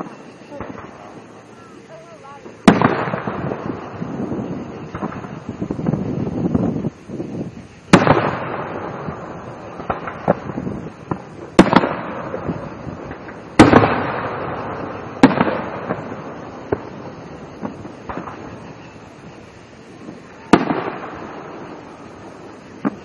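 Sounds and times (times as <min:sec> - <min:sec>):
small firework pops: 0:00.0 - 0:01.4, 0:02.4 - 0:06.1, 0:07.9 - 0:19.4, 0:20.0 - 0:23.0
firework bangs with rolling echo: 0:00.0 - 0:23.0.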